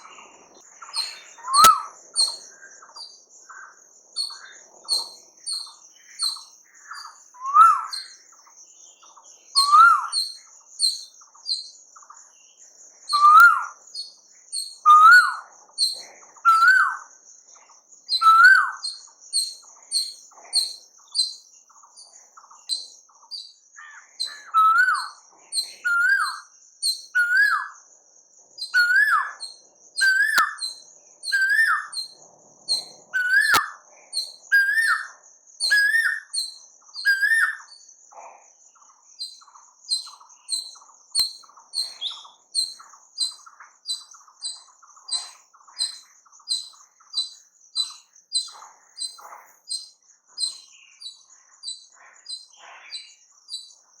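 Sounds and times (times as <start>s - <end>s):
high bird chirps: 0.0s - 27.8s, 28.6s - 38.0s, 38.8s - 54.0s
thin bird trill: 0.0s - 27.8s, 28.6s - 38.0s, 38.7s - 54.0s.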